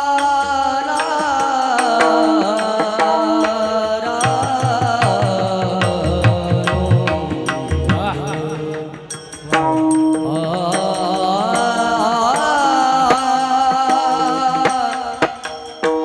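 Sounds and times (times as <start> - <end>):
person singing devotional song: 0.0 - 16.0
accompanying instrumental tones: 0.9 - 16.0.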